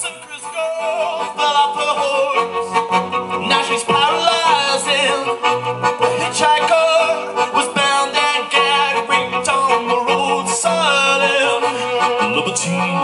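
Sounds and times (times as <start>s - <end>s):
bowed violin: 0.0s - 13.0s
man singing into a microphone: 0.0s - 13.0s.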